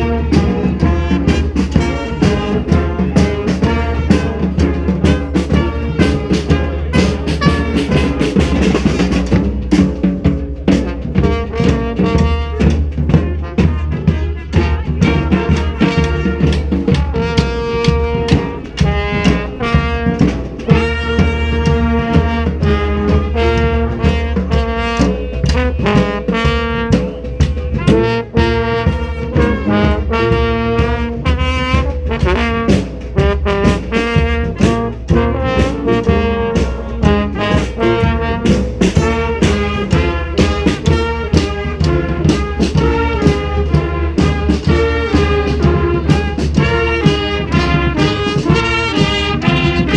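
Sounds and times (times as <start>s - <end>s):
brass band playing: 0.0s - 49.9s
percussion beat: 0.0s - 49.9s.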